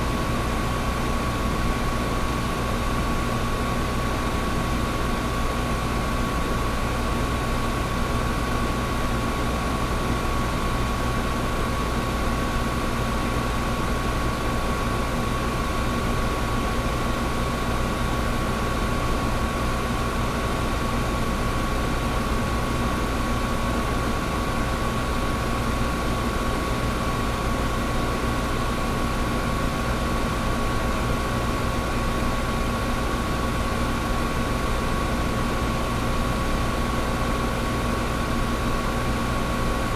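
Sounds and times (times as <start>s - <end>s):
air conditioner fan air rushing: 0.0s - 39.9s
faint steady whine: 0.0s - 39.9s.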